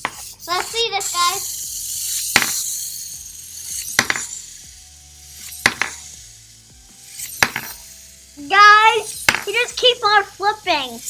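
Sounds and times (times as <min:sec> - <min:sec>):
plastic toy clacking down: 0:00.0 - 0:11.0.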